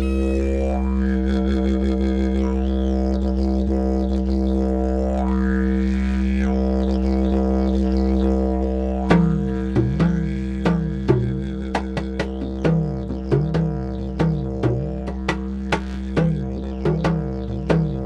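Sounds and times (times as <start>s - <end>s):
didgeridoo drone: 0.0s - 18.0s.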